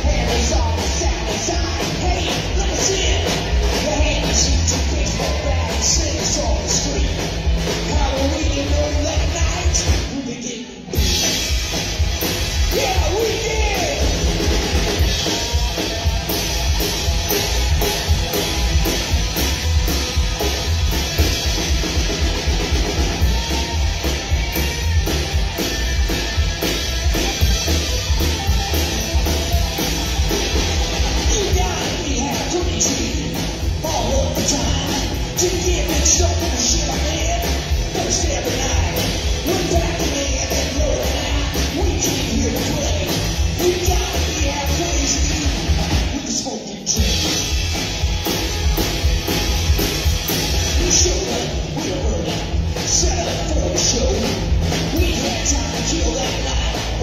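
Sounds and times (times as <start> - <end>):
rock and roll band playing: 0.0 - 57.0.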